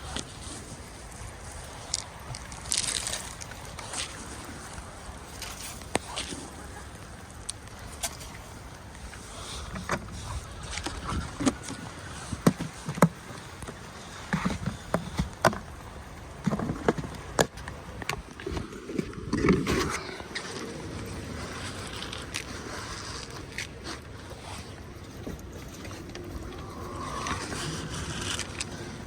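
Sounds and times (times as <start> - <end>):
wind noise: 0.0 - 29.0.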